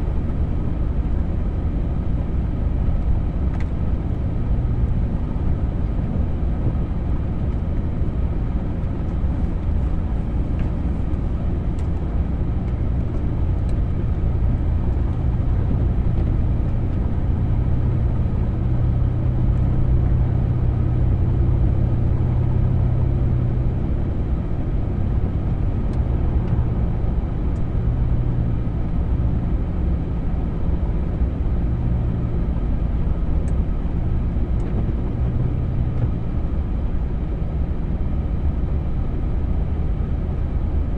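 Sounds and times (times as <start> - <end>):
vehicle engine drone in snow: 0.0 - 40.9.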